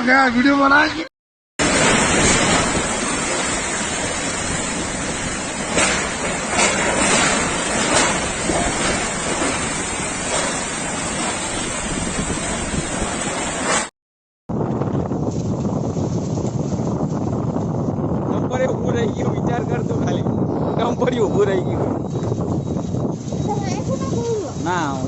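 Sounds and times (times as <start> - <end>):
storm wind and water rushing: 1.6 - 13.9, 14.5 - 25.0.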